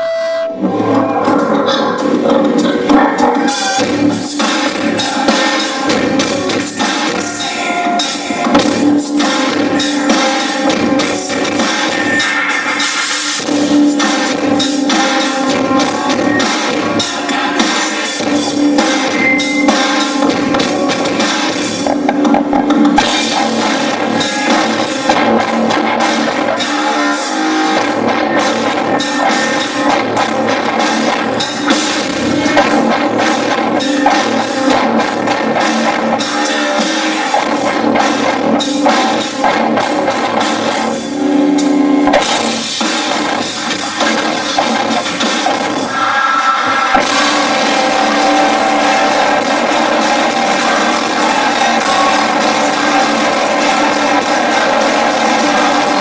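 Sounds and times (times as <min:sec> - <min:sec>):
drums: 0:00.0 - 0:56.0
guitar: 0:00.0 - 0:56.0
rock band playing live: 0:00.0 - 0:56.0.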